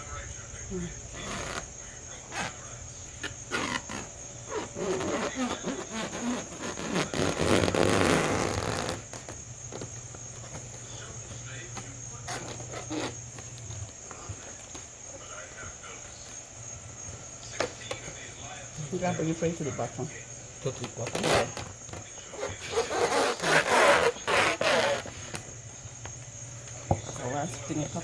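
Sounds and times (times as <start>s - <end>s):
crickets trilling: 0.0s - 28.0s
cling wrap crinkling: 0.5s - 26.8s.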